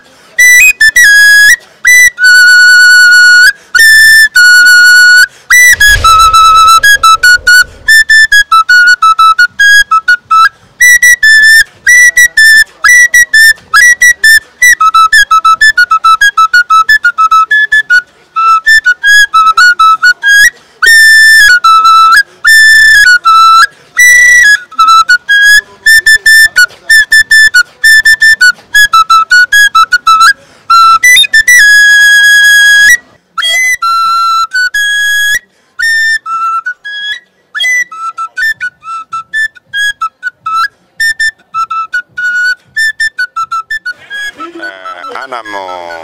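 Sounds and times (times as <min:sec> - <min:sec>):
solo flute melody: 0:00.0 - 0:46.0.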